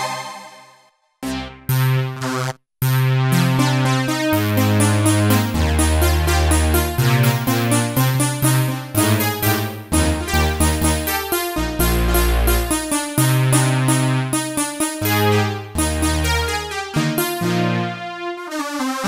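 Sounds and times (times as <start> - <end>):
synth bass line and beat: 1.2 - 18.2.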